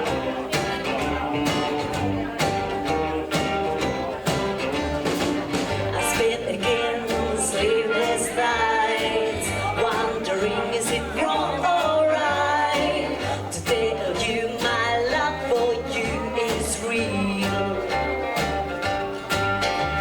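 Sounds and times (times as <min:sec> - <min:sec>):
rockabilly band playing: 0:00.0 - 0:20.0.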